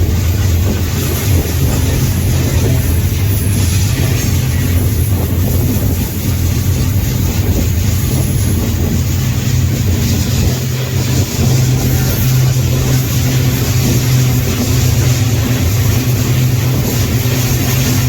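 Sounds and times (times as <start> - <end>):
rushing noise: 0.0 - 18.0
train wheels rumbling on rail: 0.0 - 18.0.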